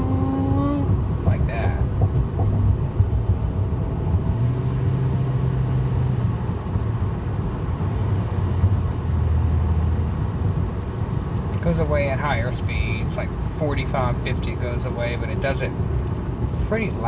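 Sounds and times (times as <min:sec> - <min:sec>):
car engine low drone: 0:00.0 - 0:17.0
faint engine hum: 0:00.0 - 0:17.0.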